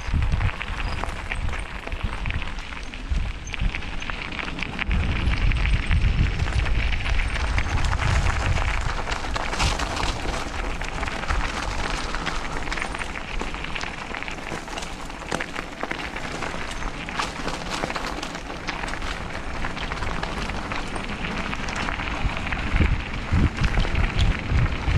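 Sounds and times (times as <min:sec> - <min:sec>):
bike clicks and rattles: 0:00.0 - 0:24.9
tyres on dirt trail: 0:00.0 - 0:24.9
wind buffeting microphone: 0:00.0 - 0:24.9.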